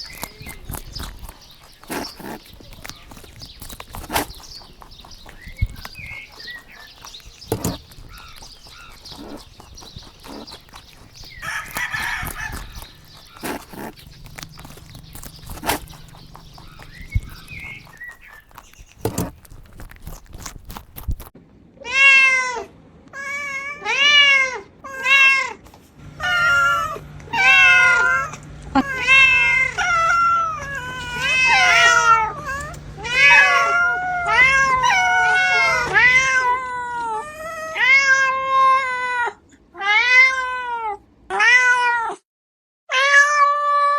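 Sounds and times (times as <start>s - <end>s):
kittens meowing: 0.0s - 22.6s, 26.2s - 42.2s.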